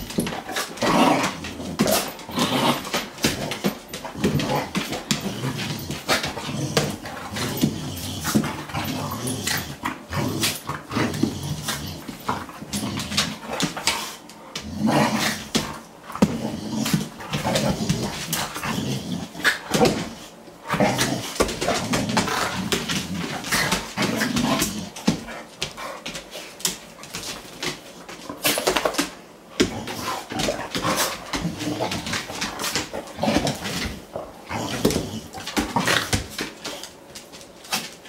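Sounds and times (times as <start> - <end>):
dogs growling: 0.0 - 26.0, 28.3 - 36.8
nails and paws on tile floor: 0.0 - 38.0.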